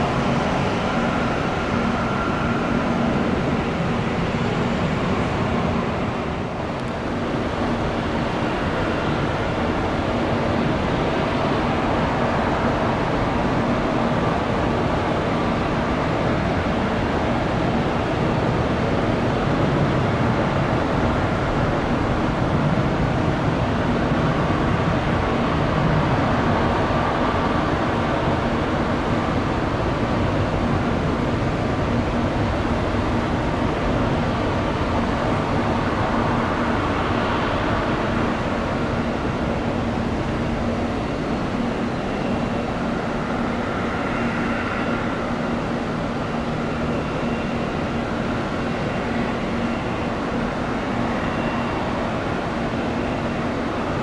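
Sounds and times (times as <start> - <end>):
jet engines roaring: 0.0 - 15.7, 17.1 - 54.0
jet engine whine: 0.0 - 54.0.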